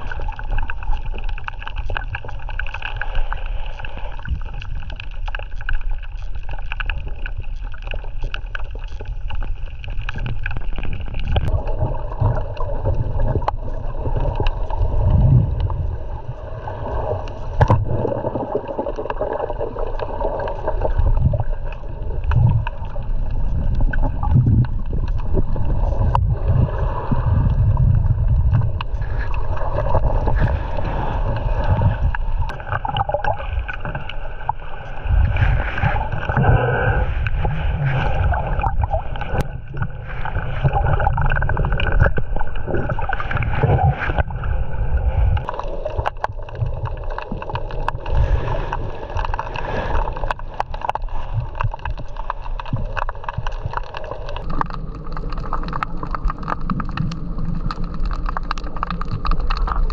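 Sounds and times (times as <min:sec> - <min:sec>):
small splashes and clicks: 0:00.0 - 0:15.9, 0:17.2 - 0:36.4, 0:37.3 - 0:44.3, 0:45.4 - 0:59.9
water sloshing and gurgling: 0:00.0 - 0:59.9
low rumble: 0:08.7 - 0:59.9.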